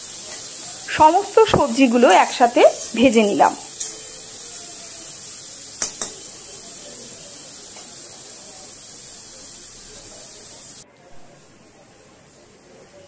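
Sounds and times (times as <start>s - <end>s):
vegetables sizzling in hot oil: 0.0s - 10.8s.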